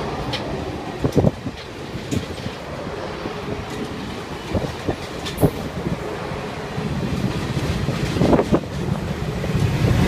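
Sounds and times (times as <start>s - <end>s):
train cars rumbling: 0.0s - 10.0s.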